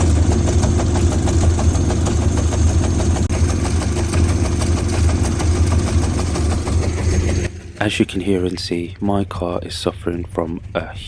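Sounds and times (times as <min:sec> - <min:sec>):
engine idling roughly with misfire: 0:00.0 - 0:11.0.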